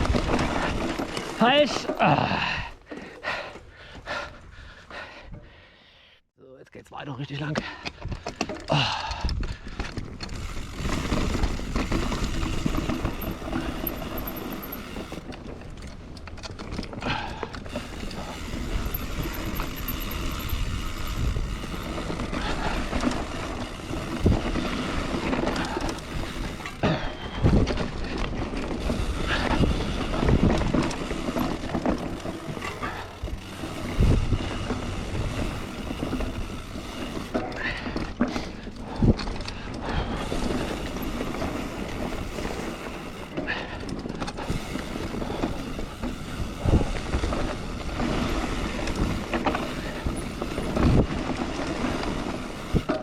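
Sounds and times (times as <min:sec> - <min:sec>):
bike knocking and rattling: 0:00.0 - 0:04.3, 0:07.4 - 0:53.0
bike tyres rolling on dirt: 0:00.0 - 0:05.2, 0:07.6 - 0:53.0.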